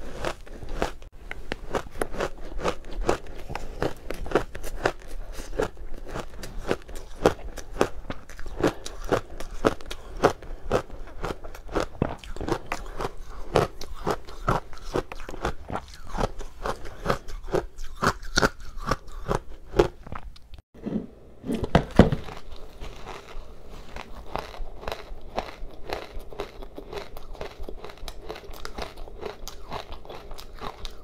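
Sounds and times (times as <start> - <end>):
loud crunching bite: 0.0 - 20.3, 22.2 - 31.0
crunchy chewing of ice: 0.0 - 20.4, 22.2 - 31.0.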